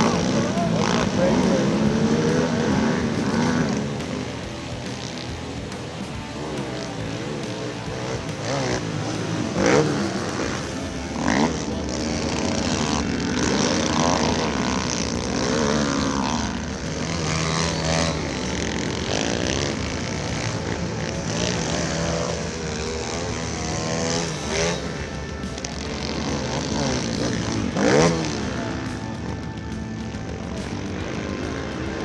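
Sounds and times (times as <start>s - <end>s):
small motorbike engines revving: 0.0s - 32.0s.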